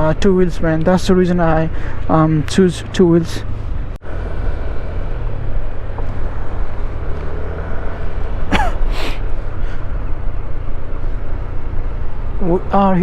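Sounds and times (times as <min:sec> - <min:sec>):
scooter engine while riding: 0:00.0 - 0:13.0.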